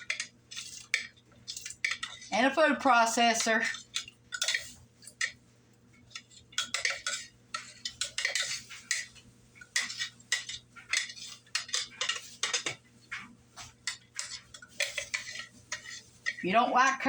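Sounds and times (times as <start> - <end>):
kitchen utensils and dishes clattering: 0.0 - 2.5, 3.3 - 5.4, 6.1 - 17.0.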